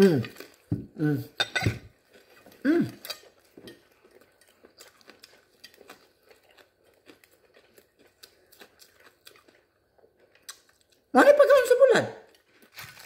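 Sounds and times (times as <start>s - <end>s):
person chewing crunchy food: 0.0s - 11.1s, 12.2s - 13.0s.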